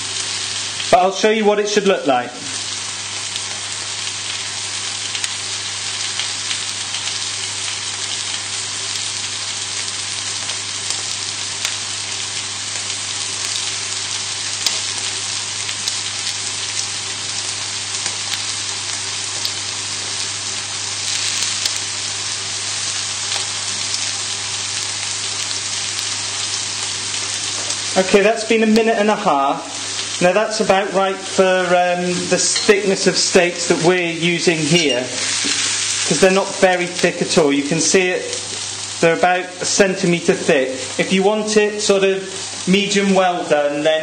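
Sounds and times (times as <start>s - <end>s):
steaks sizzling in a frying pan: 0.0s - 44.0s.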